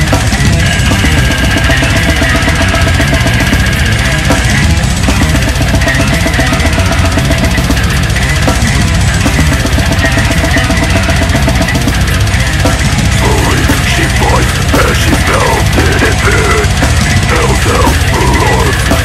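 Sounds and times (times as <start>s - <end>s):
death metal music: 0.0s - 19.0s
fast bass drum strokes: 0.0s - 19.0s.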